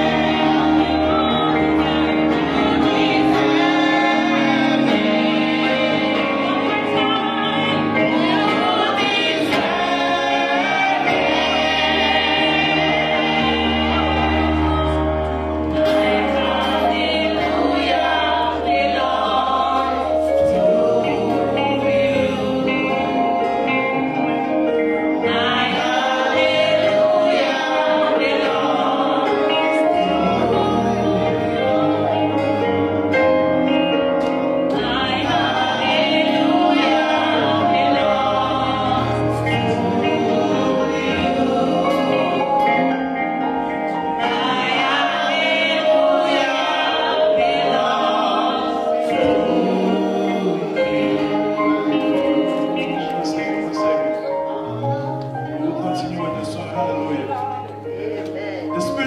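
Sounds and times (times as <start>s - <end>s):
gospel group singing: 0.0s - 59.0s
held bass notes: 0.0s - 59.0s
instrumental backing: 0.0s - 59.0s.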